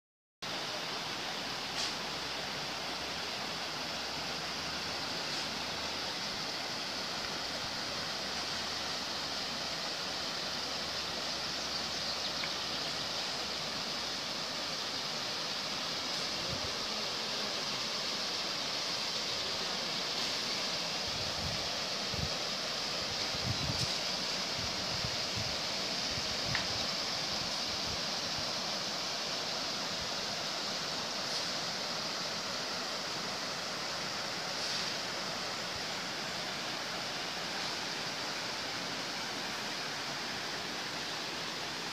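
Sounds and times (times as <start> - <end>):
river rushing over rocks: 0.5 - 41.9.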